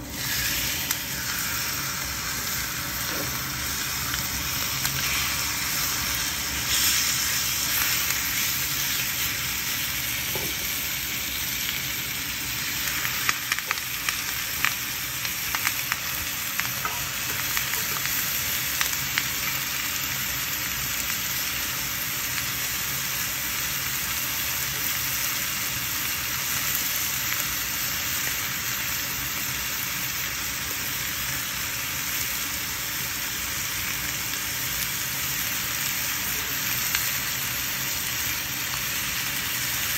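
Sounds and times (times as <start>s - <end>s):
steaks sizzling in grill pan: 0.0s - 39.9s.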